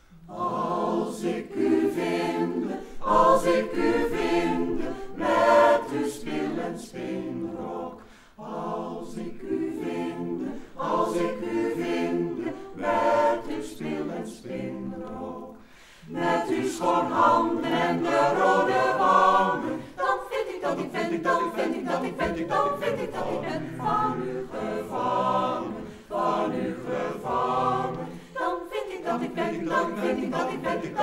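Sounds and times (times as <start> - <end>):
choir singing a cappella: 0.0 - 31.0.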